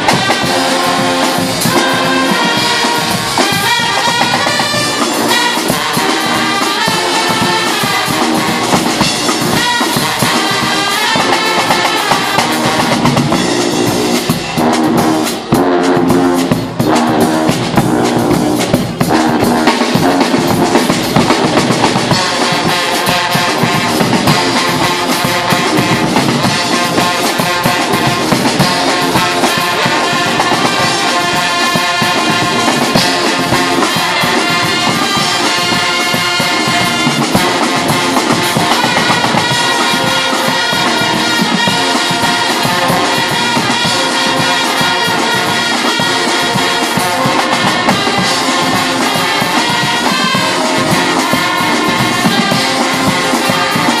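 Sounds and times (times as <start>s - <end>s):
bass drum beats: 0.0s - 54.0s
brass band playing loudly: 0.0s - 54.0s.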